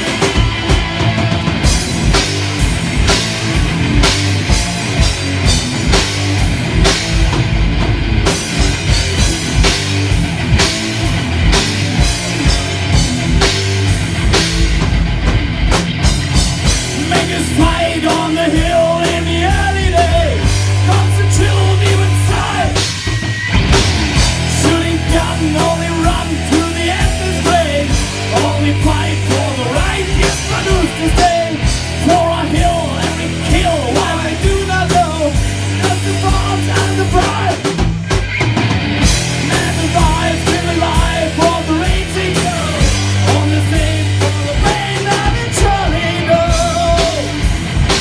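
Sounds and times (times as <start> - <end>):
heavy rock music: 0.0 - 48.0.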